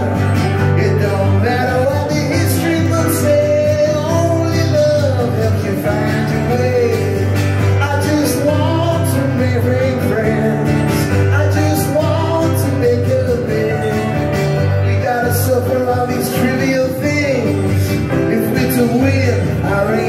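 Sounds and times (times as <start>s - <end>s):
keyboard: 0.0s - 20.0s
melodic instrumental line: 0.0s - 20.0s
strummed acoustic guitar: 0.0s - 20.0s.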